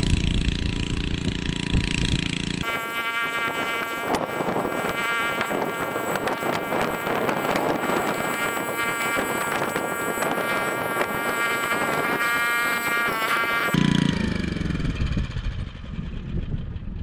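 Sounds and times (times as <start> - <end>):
small engine buzzing: 0.0 - 17.0
wind noise on microphone: 0.0 - 17.0.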